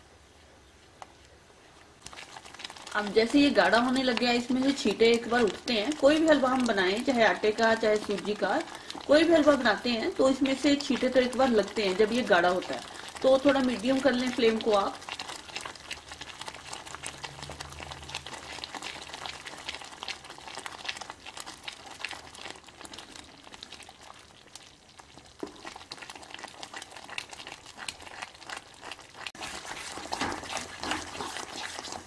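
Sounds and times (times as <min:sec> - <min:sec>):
thick mixture bubbling and popping: 0:00.9 - 0:32.0
wooden spatula stirring: 0:01.8 - 0:32.0.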